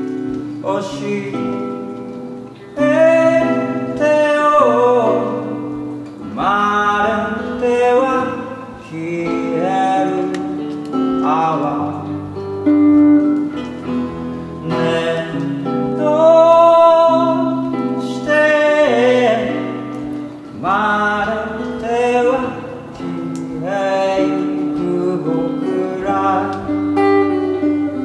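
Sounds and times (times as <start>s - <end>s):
man singing: 0.0s - 2.0s, 2.6s - 12.5s, 13.6s - 28.0s
strummed acoustic guitar: 0.0s - 28.0s.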